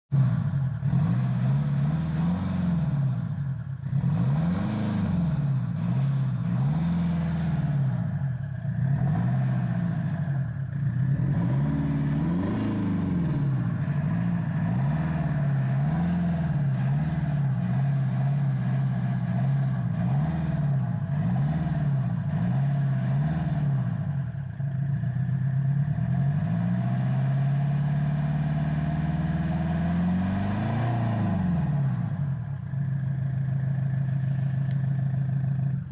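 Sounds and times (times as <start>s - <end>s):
diesel engine revving: 0.1s - 35.9s.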